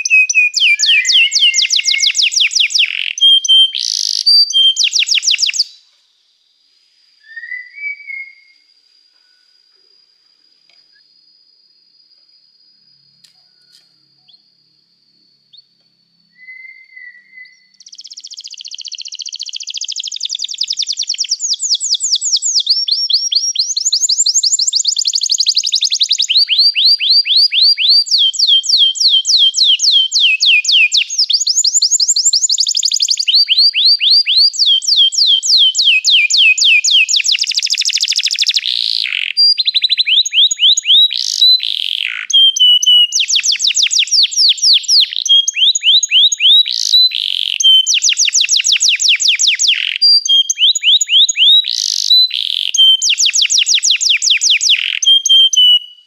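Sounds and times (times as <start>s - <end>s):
canary singing trills: 0.0s - 5.8s, 16.4s - 56.0s.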